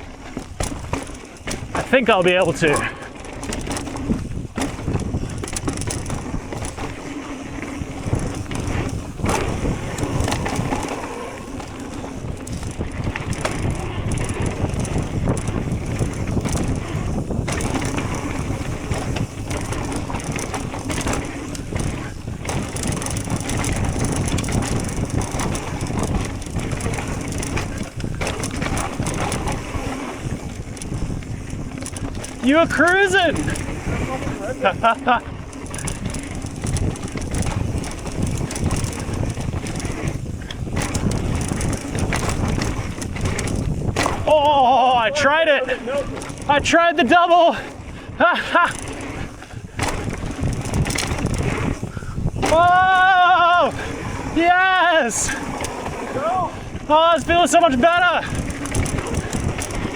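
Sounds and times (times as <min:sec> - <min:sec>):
tyres crunching over dirt and rocks: 0:00.0 - 0:47.9, 0:48.6 - 0:59.9
bike chain and frame rattling: 0:00.0 - 0:59.9.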